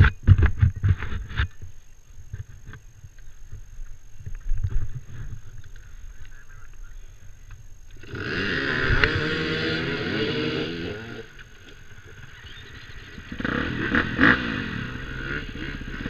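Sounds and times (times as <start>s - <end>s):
dirt bike engines revving: 1.3s - 16.0s.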